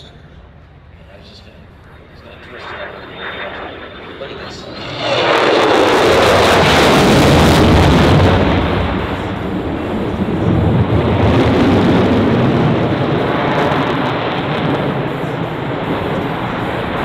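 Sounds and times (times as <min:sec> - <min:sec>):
jet engine roaring with crackling: 0:00.0 - 0:17.0.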